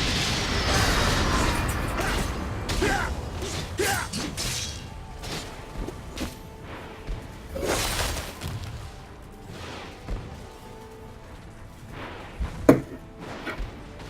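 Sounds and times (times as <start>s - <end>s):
soundtrack music: 0.0s - 14.0s.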